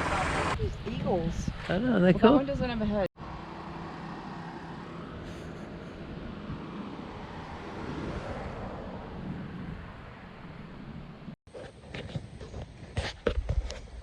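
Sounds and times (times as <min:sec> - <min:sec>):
vehicle engine hum: 0:00.0 - 0:01.2, 0:02.0 - 0:12.8
road and wind noise: 0:00.0 - 0:14.0.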